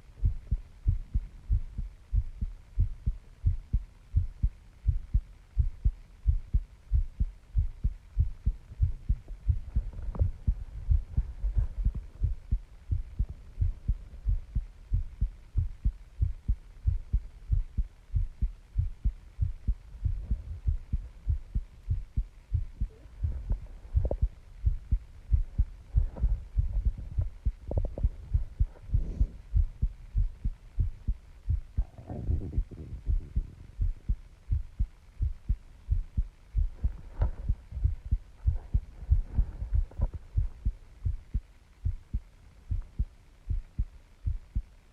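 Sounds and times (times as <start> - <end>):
heartbeat pounding: 0.0 - 44.8.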